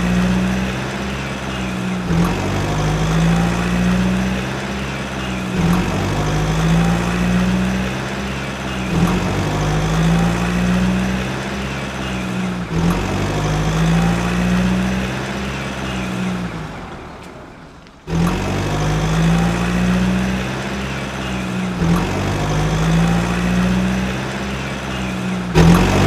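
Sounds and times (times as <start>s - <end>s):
heavy truck engine surging: 0.0s - 26.0s.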